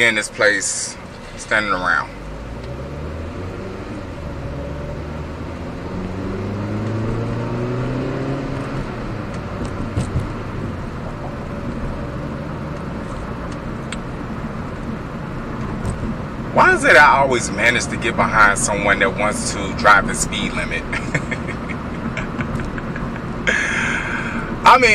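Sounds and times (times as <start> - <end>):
car engine accelerating: 0.0 - 24.9
road noise: 0.0 - 24.9.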